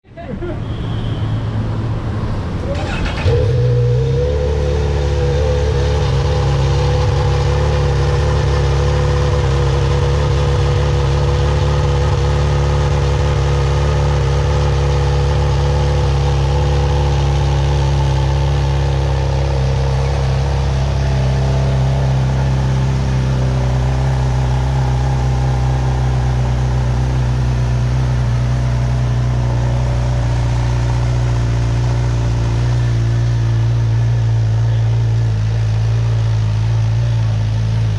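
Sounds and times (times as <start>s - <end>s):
motorcycle engine idling: 2.8s - 37.9s.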